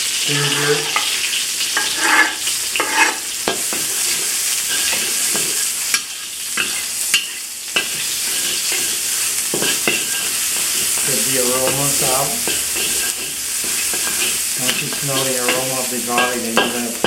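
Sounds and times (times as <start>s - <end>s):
garlic sizzling in hot oil: 0.0s - 17.0s
utensil scraping a pan: 0.2s - 17.0s.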